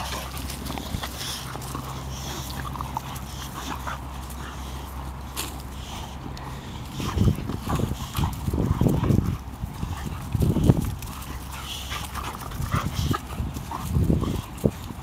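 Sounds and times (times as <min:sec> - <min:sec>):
dogs growling: 0:00.0 - 0:15.0
scuffling in dry grass and leaves: 0:00.0 - 0:15.0.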